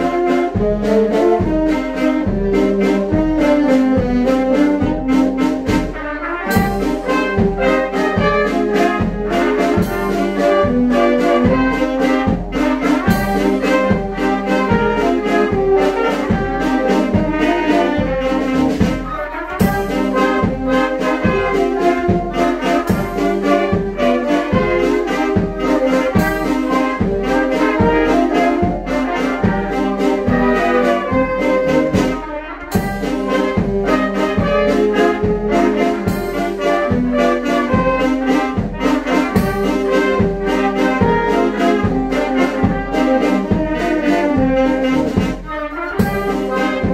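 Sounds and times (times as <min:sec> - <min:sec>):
percussion beat: 0:00.0 - 0:46.9
wind band playing: 0:00.0 - 0:46.9.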